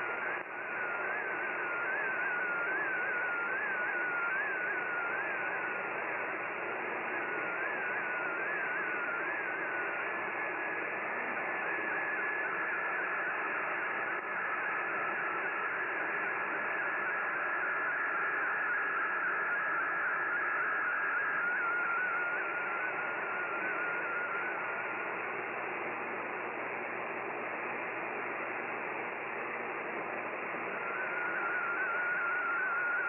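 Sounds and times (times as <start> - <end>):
static hiss: 0.0 - 33.0
wavering radio tone: 0.0 - 33.0.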